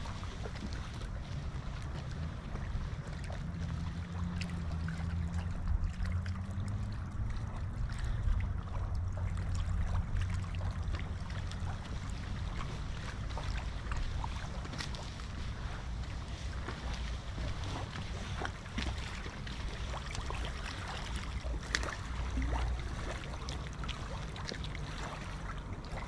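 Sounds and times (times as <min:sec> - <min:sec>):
water lapping and splashing: 0:00.0 - 0:26.0
wind buffeting microphone: 0:00.0 - 0:26.0.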